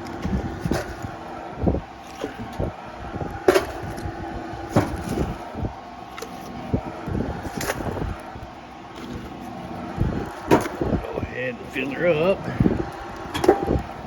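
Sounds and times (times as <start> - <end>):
handling noise: 0.0 - 14.0.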